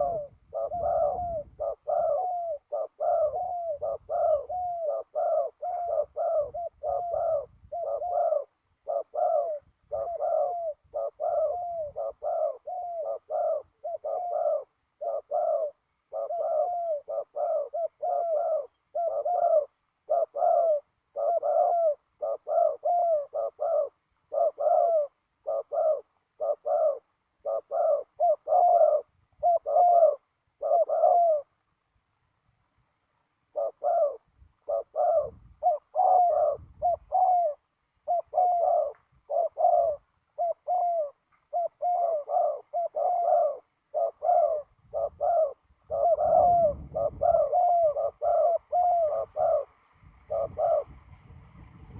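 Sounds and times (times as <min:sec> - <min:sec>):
dove cooing: 0:00.0 - 0:31.8, 0:33.2 - 0:51.9.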